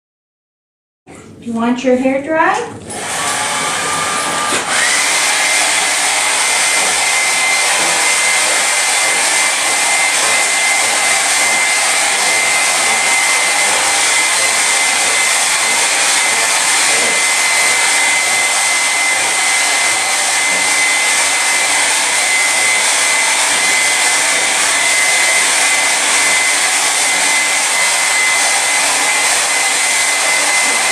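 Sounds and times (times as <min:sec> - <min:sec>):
hair dryer blowing with whine: 0:02.4 - 0:30.9.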